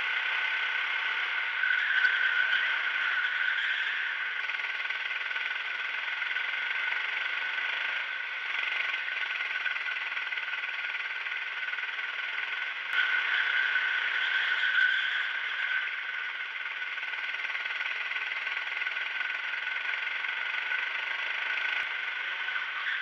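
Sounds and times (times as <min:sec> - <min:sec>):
go-kart engine running: 0:00.0 - 0:23.0.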